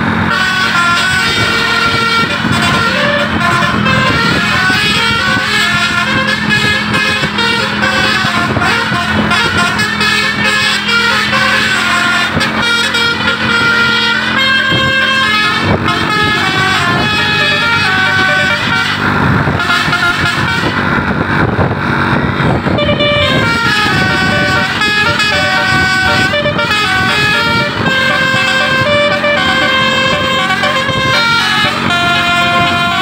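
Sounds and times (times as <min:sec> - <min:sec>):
bus engine and road noise: 0:00.0 - 0:33.0
musical bus air horn: 0:00.0 - 0:33.0.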